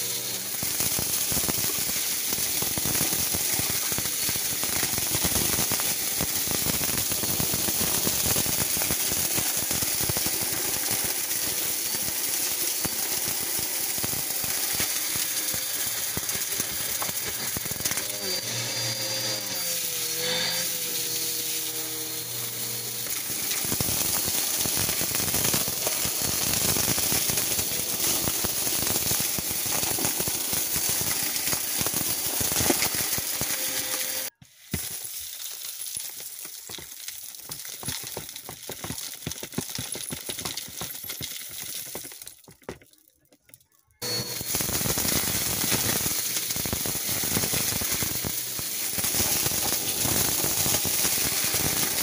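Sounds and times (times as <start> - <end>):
debris pouring into plastic tote: 0.0 - 52.0
vacuum sucking up beads and grit: 0.0 - 52.0.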